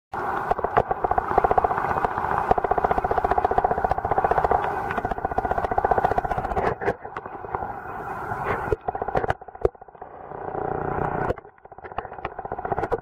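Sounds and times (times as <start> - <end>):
underwater boat engine pulsing: 0.2 - 13.0.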